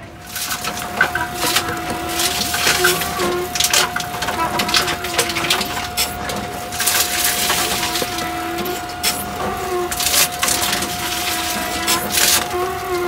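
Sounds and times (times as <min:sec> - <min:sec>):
containers crunching and clattering: 0:00.0 - 0:13.0
machine mechanical hum: 0:00.0 - 0:13.0.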